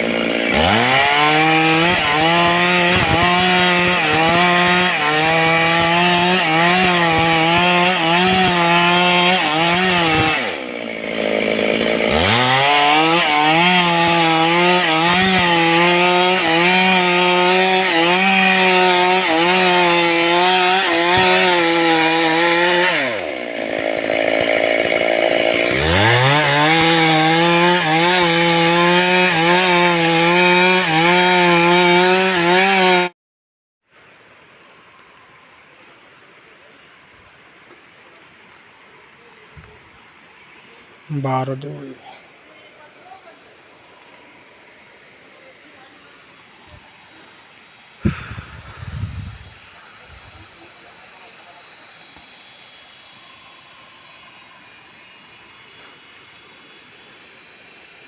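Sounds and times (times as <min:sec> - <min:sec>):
chainsaw cutting wood: 0:00.0 - 0:33.2, 0:42.9 - 0:58.0.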